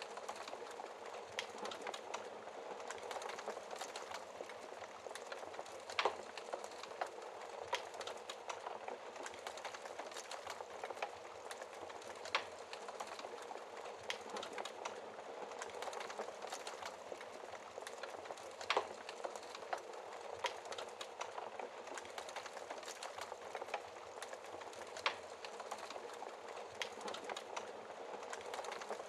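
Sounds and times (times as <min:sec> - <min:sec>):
wood fire crackling: 0:00.0 - 0:29.0
fire popping: 0:00.1 - 0:29.0.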